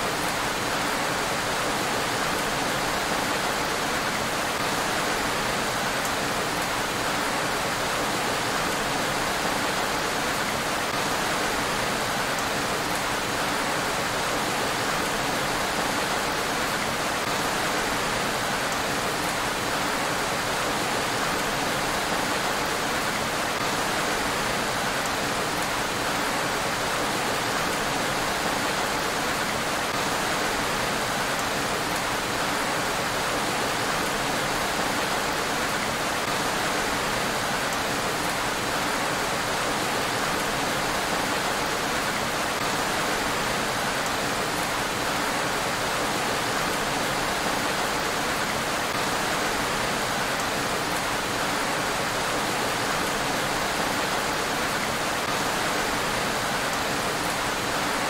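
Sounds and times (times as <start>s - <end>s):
rain falling on a road: 0.0s - 58.0s.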